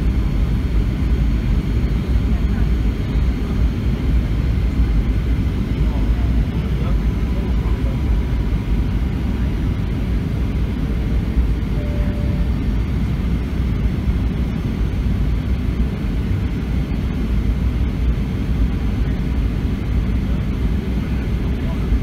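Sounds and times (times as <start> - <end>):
airliner engine rumble: 0.0 - 22.0.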